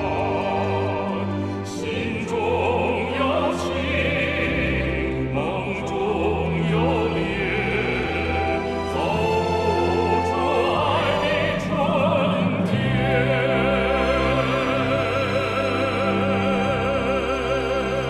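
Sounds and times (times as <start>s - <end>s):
orchestral theme music: 0.0s - 18.0s.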